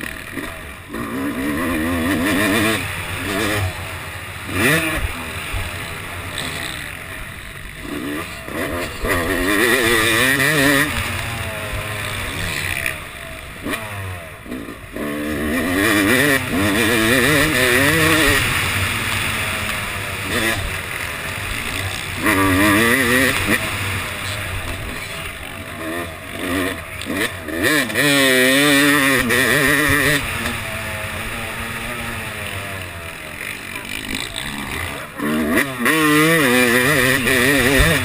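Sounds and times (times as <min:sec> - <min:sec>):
motocross engine revving: 0:00.0 - 0:38.0.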